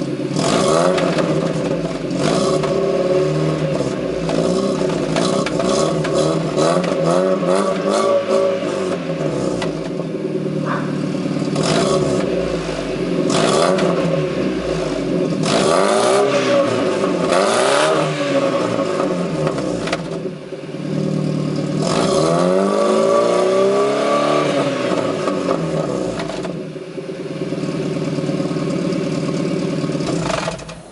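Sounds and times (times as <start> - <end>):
car engine idling: 0.0 - 17.4, 18.0 - 22.2, 25.2 - 30.9
car engine revving: 0.0 - 30.9.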